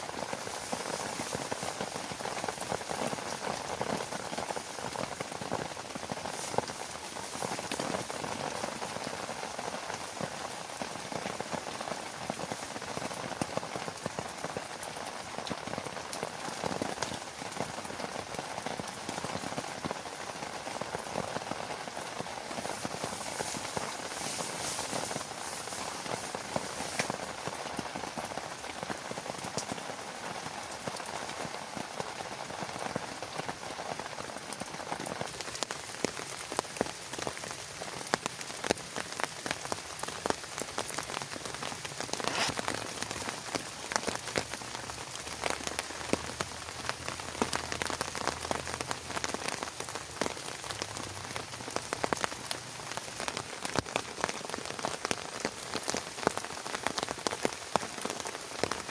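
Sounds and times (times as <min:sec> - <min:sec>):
heavy rain pattering: 0:00.0 - 0:58.9.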